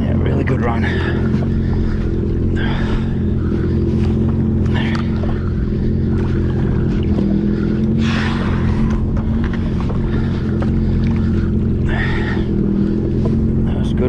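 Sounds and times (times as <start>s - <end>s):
jet ski engine idling: 0.0s - 14.0s.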